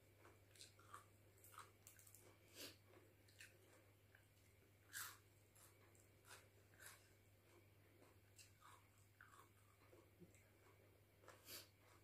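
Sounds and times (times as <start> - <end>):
faint low hum: 0.0 - 12.0
person chewing food: 0.0 - 12.0.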